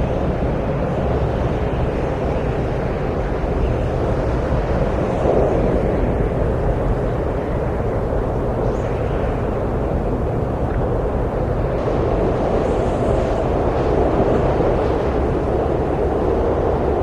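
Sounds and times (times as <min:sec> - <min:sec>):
low rushing wind: 0:00.0 - 0:17.0.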